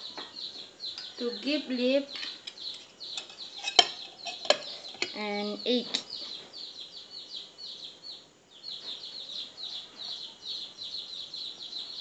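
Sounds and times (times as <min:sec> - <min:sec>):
bird chirping rapidly: 0:00.0 - 0:12.0.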